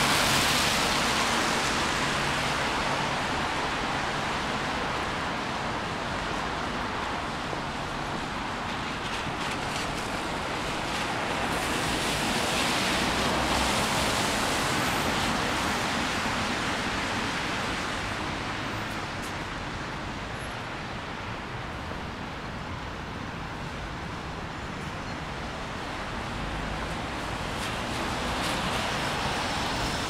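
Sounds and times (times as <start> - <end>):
passing vehicles: 0.0 - 30.0.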